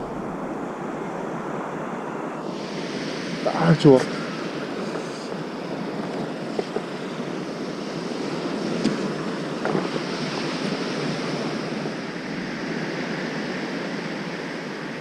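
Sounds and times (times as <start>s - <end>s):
surf breaking on a beach: 0.0s - 15.0s
wind on the microphone: 0.0s - 15.0s.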